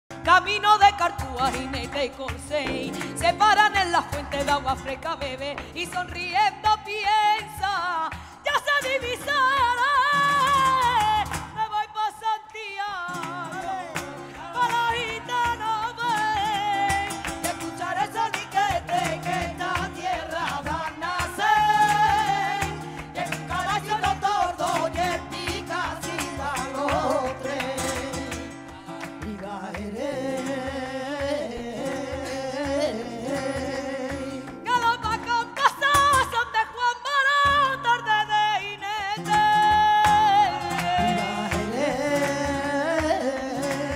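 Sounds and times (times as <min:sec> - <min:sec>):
flamenco guitar: 0:00.0 - 0:43.9
percussion: 0:00.0 - 0:43.9
rhythmic handclaps: 0:00.1 - 0:11.8, 0:13.0 - 0:43.9
woman singing: 0:00.1 - 0:43.9.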